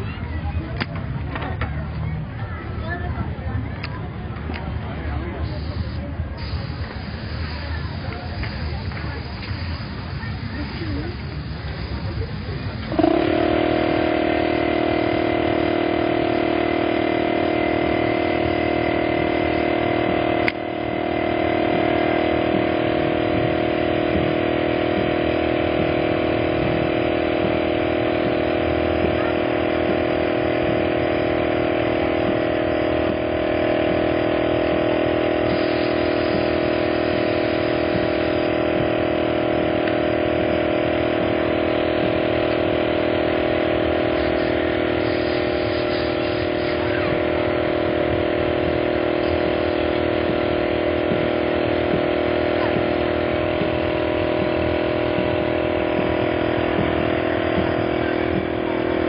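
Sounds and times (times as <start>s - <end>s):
motor droning: 5.3s - 59.0s.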